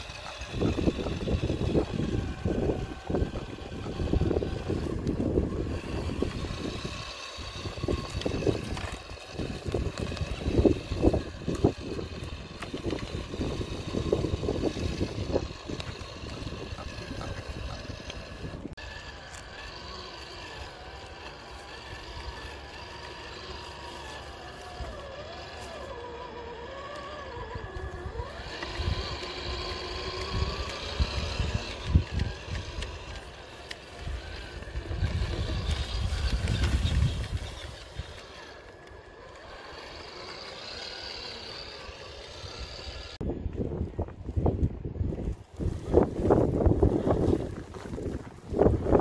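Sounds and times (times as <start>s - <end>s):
small electric motors whining: 0.0s - 49.0s
wind rumbling on microphone: 0.0s - 49.0s.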